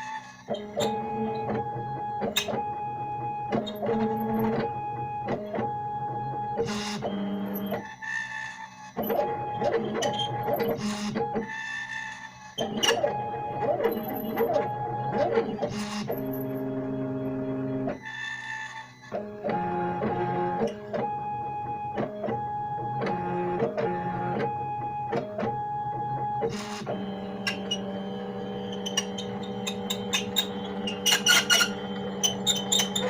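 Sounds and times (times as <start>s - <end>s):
stepper motors whining: 0.0s - 33.0s.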